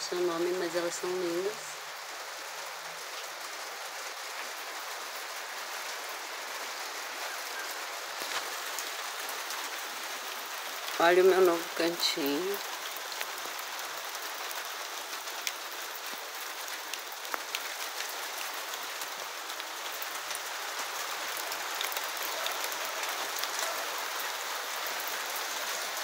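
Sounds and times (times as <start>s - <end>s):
light rain hissing: 0.0s - 26.0s
raindrops ticking: 0.0s - 26.0s.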